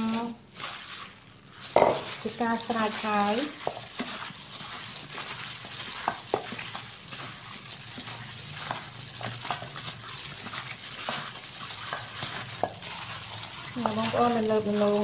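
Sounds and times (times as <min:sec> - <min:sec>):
plastic glove crinkling: 0:00.0 - 0:15.0
wet squelching of meat: 0:00.0 - 0:15.0
meat clicking against metal bowl: 0:01.7 - 0:15.0.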